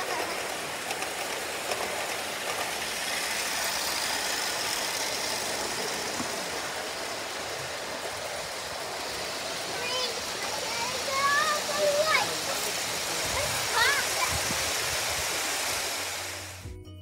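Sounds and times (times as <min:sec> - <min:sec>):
model trains rolling: 0:00.0 - 0:16.7.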